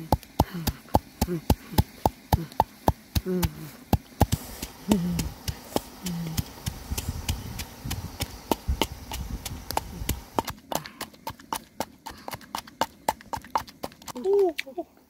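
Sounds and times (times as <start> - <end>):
pestle pounding in mortar: 0.0 - 14.2.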